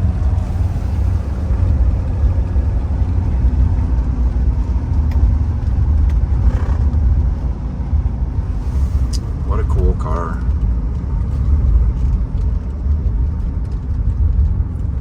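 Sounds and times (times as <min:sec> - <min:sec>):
diesel engine rumble from cabin: 0:00.0 - 0:15.0.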